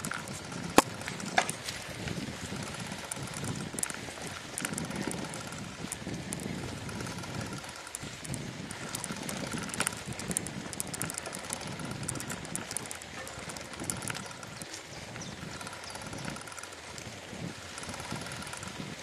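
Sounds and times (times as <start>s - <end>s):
bicycle tyres rumbling on grass: 0.0s - 19.0s
bike clicks and rattles: 0.0s - 19.0s.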